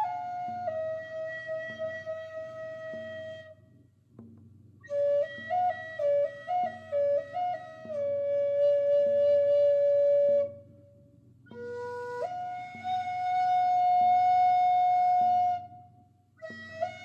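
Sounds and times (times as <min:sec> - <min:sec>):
flute melody: 0:00.0 - 0:03.6, 0:04.8 - 0:10.7, 0:11.5 - 0:17.0.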